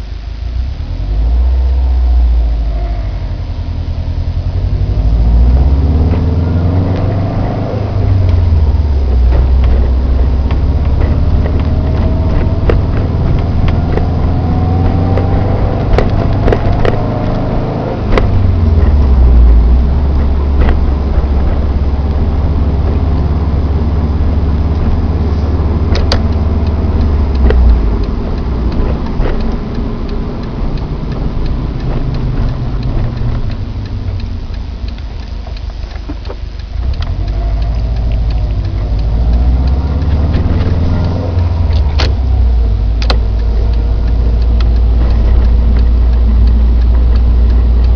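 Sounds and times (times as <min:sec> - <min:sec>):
car engine running: 0:00.0 - 0:47.9
sharp clicks: 0:05.0 - 0:47.9.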